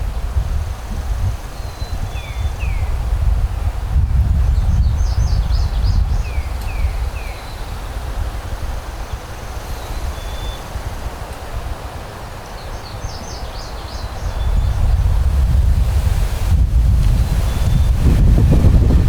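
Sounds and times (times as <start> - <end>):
wind buffeting microphone: 0.0 - 19.0
songbirds singing: 1.2 - 3.2, 4.0 - 15.4, 17.0 - 19.0.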